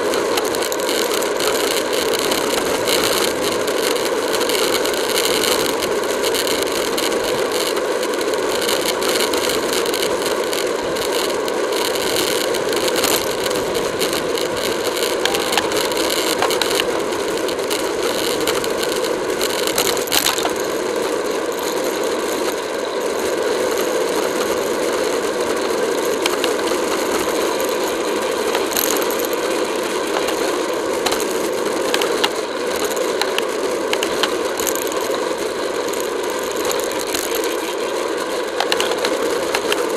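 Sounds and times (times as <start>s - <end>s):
bicycle drivetrain rattling and clicking: 0.0s - 39.9s
wind and road noise: 0.0s - 39.9s.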